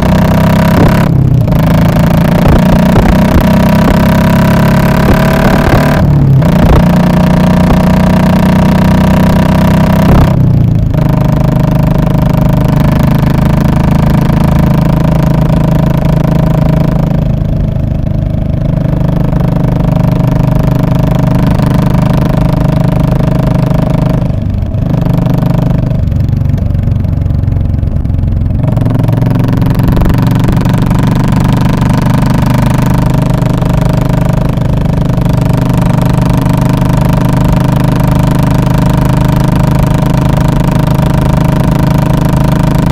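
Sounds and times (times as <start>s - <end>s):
motorcycle exhaust note: 0.0s - 42.9s.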